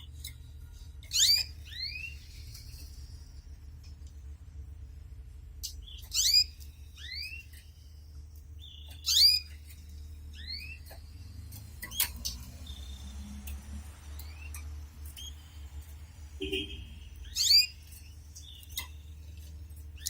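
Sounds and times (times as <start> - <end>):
canary chirping: 0.0 - 20.0.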